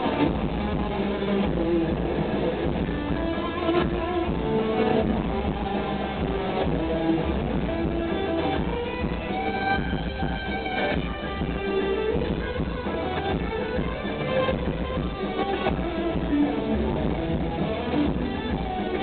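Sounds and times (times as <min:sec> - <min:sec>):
electric guitar melody: 0:00.0 - 0:19.0
low bass: 0:00.0 - 0:19.0.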